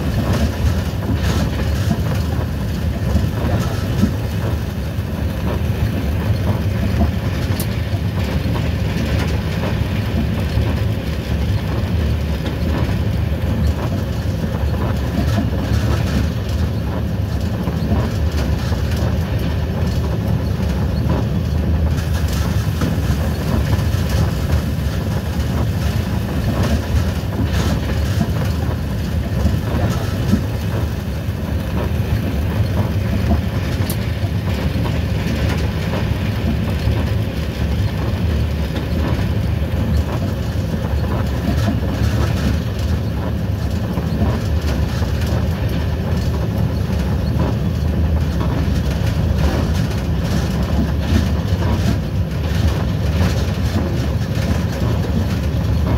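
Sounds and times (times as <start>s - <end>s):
low train rumble: 0.0s - 55.9s
wheels clacking over rails: 0.0s - 55.9s.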